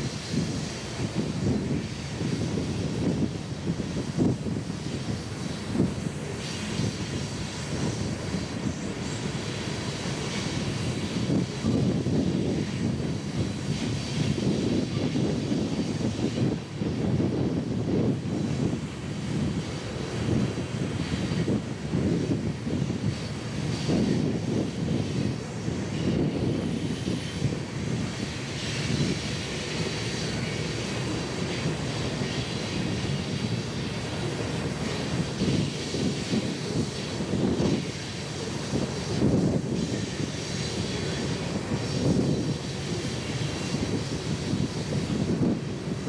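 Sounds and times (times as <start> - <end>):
freight train rumbling past: 0.0 - 46.0.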